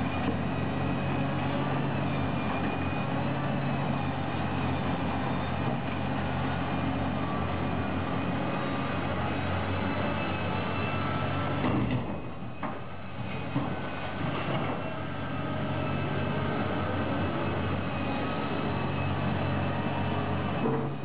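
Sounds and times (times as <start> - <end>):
excavator diesel engine droning: 0.0 - 21.0.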